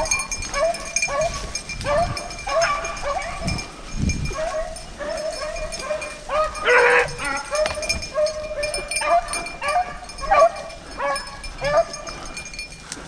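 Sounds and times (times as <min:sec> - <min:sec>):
hounds baying: 0:00.0 - 0:13.0.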